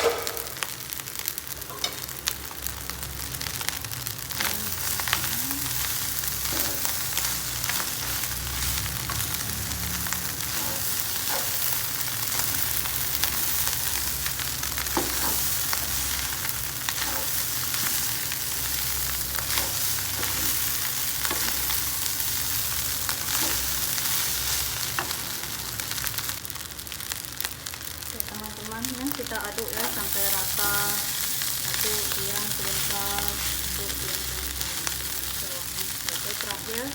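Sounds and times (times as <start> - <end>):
rice sizzling in a pan: 0.0 - 36.9.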